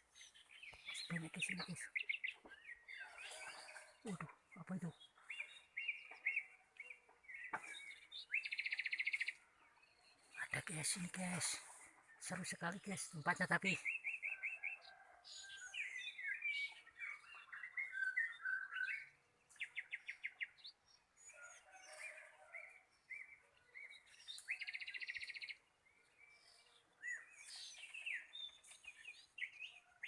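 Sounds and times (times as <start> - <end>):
songbirds chirping and whistling: 0.0 - 30.0.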